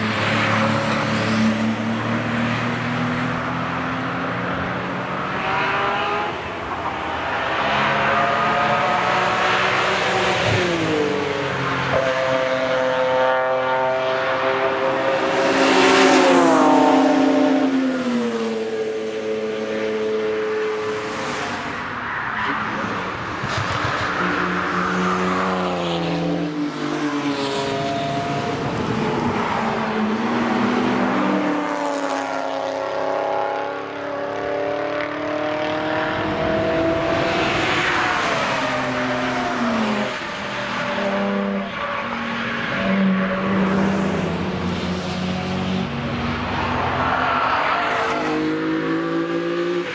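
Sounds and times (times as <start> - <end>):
car engines revving past: 0.0 - 49.9.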